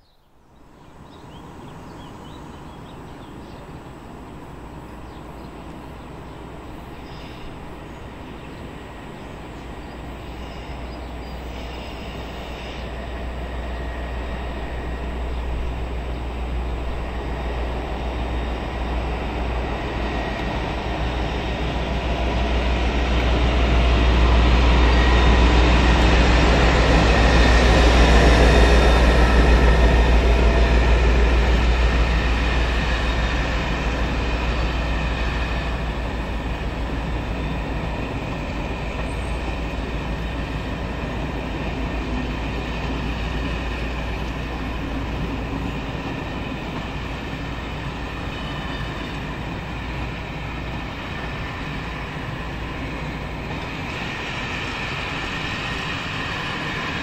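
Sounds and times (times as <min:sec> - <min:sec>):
train passing rumble: 0:00.4 - 0:57.0.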